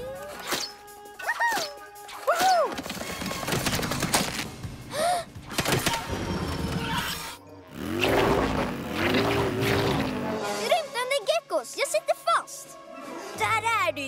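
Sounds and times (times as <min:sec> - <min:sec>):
cartoon background music: 0:00.0 - 0:14.0.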